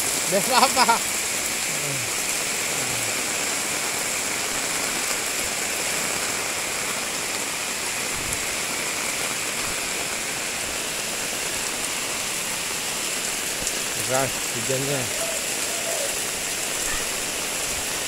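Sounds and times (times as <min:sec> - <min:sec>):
heavy rain on a wet street: 0:00.0 - 0:18.0.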